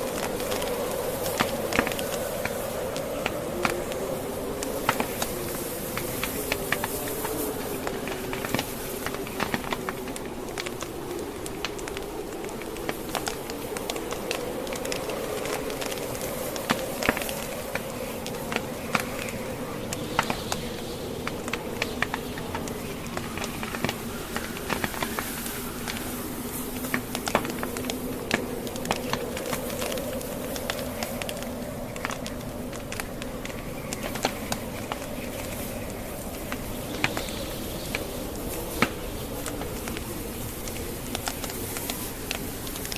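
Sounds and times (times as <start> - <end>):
howling blizzard wind: 0.0 - 42.9
wood fire crackling and popping: 0.0 - 42.9.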